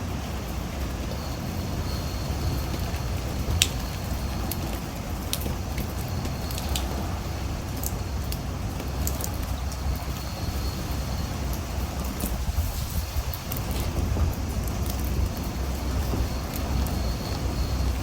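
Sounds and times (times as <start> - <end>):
rain hissing: 0.0 - 18.0
raindrops ticking: 0.0 - 18.0
wind buffeting microphone: 0.0 - 18.0.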